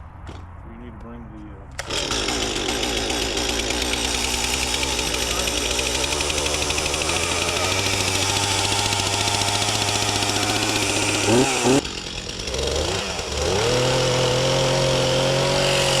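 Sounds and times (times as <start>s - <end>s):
small engine running: 1.8s - 16.0s.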